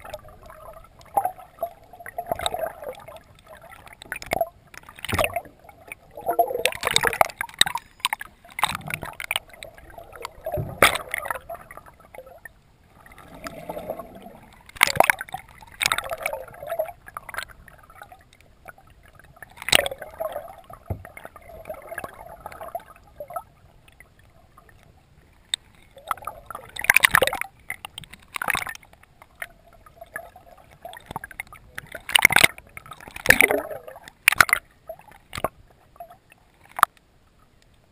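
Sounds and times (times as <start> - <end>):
water gurgling underwater: 0.0 - 24.8, 26.0 - 36.9.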